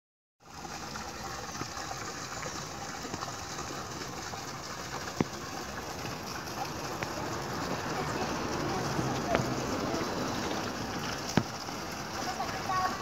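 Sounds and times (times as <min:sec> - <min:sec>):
outdoor background noise: 0:00.4 - 0:13.0.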